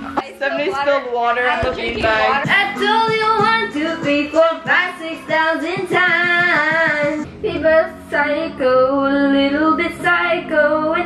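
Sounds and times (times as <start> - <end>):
girl singing into a microphone: 1.7 - 11.0.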